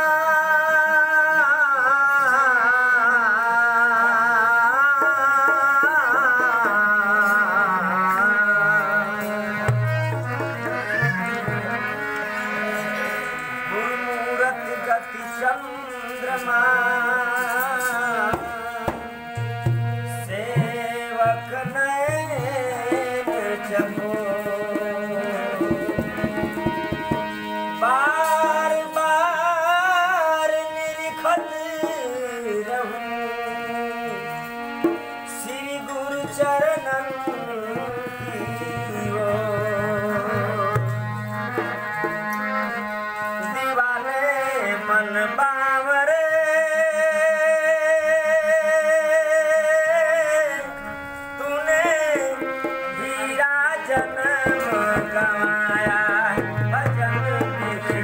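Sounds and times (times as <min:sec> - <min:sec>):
dholak drum: 0:00.0 - 0:58.0
harmonium: 0:00.0 - 0:58.0
man singing: 0:00.0 - 0:58.0.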